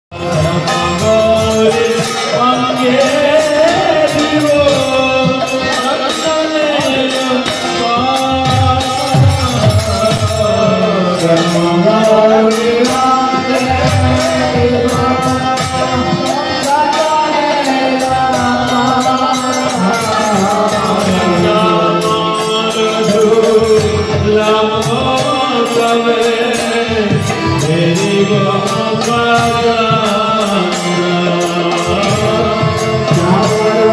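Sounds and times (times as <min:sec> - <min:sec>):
harmonium: 0:00.1 - 0:33.9
high percussion beat: 0:00.1 - 0:33.9
man singing: 0:00.1 - 0:33.9.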